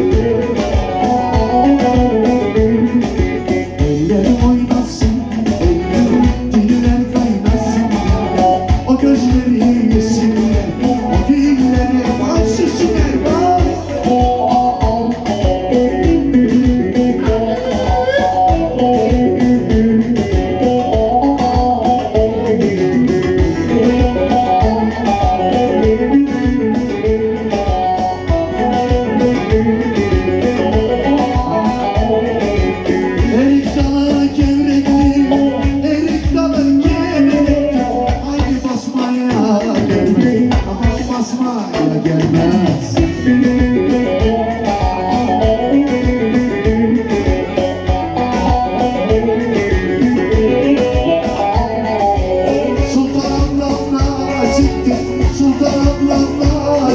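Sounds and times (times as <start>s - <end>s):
live band dance music: 0.0s - 56.9s
person singing: 0.0s - 56.9s.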